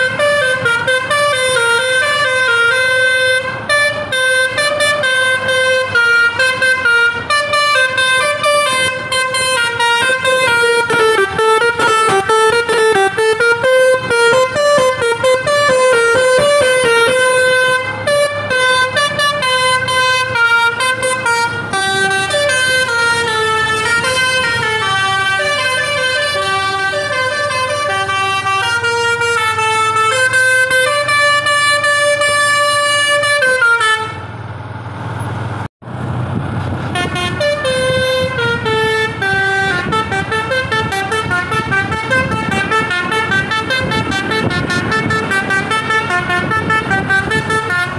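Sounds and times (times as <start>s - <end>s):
bus horn playing a tune: 0.0s - 34.4s, 36.8s - 47.9s.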